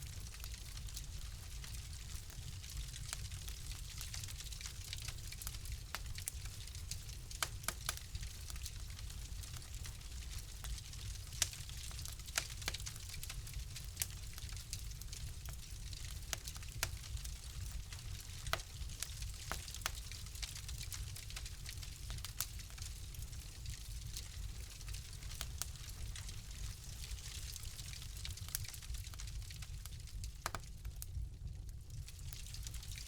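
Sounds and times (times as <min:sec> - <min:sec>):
low fire rumble: 0:00.0 - 0:33.0
wood fire crackling: 0:00.0 - 0:33.0.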